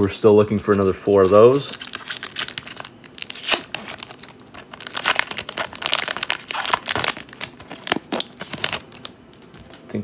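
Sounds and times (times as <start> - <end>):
card pack wrapper crinkling: 0.5 - 10.0.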